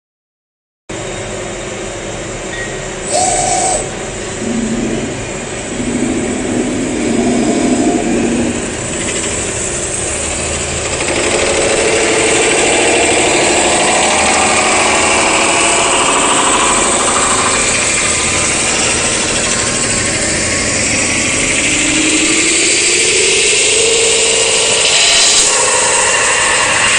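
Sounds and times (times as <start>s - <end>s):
metal spinning machine noise: 1.3s - 26.9s
slowly rising tone: 3.1s - 26.9s.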